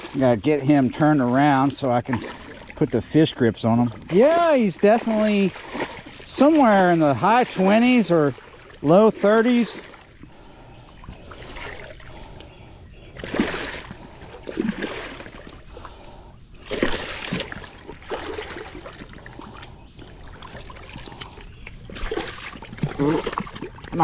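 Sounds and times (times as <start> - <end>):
fish splashing in shallow water: 0.0 - 24.0.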